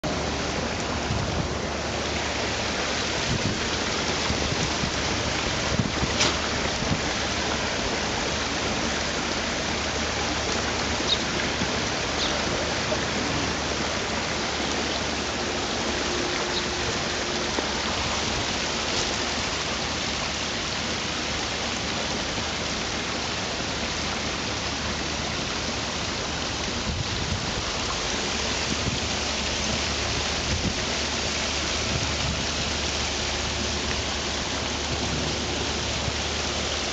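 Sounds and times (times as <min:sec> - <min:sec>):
small waterfall splashing over rocks: 0:00.0 - 0:36.9.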